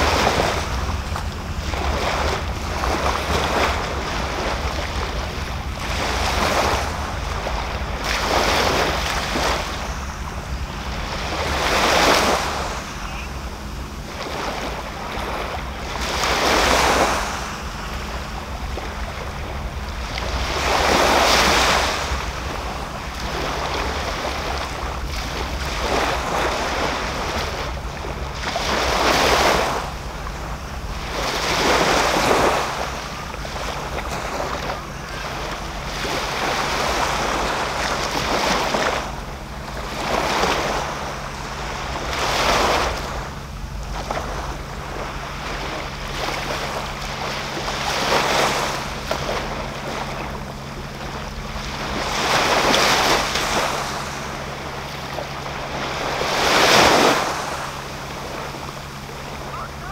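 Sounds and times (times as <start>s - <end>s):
low rumble: 0.0s - 56.3s
small waves washing up beach: 0.0s - 59.9s.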